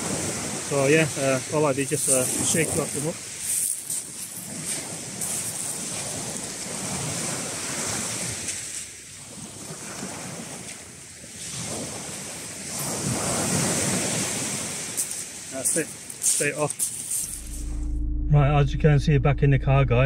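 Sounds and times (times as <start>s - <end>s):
waves washing over shingle: 0.0s - 17.5s.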